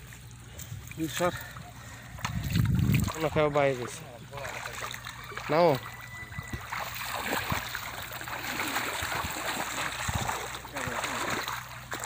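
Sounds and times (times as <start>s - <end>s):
water sloshing and splashing: 0.0s - 12.0s
net swishing through water: 2.3s - 12.0s.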